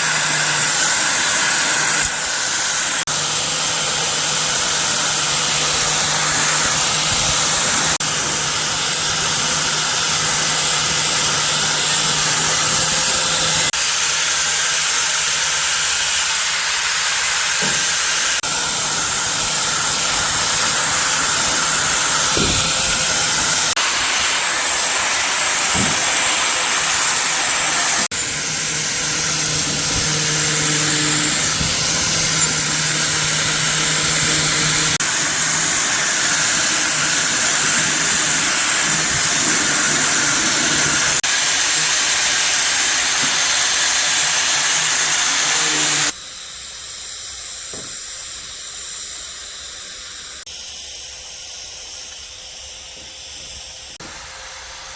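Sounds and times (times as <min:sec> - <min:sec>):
compressed air hissing: 0:00.0 - 0:46.2.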